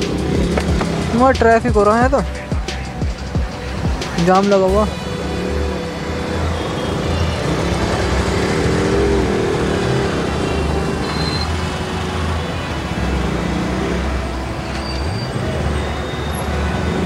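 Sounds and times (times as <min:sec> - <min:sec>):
rumble of traffic engines: 0:00.0 - 0:17.0.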